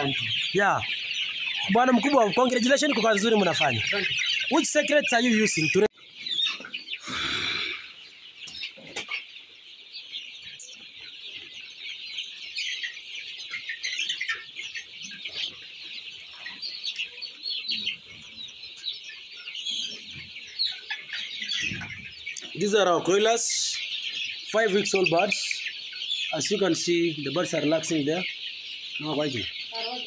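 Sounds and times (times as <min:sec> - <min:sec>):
chickens peeping and clucking: 0:00.0 - 0:30.0.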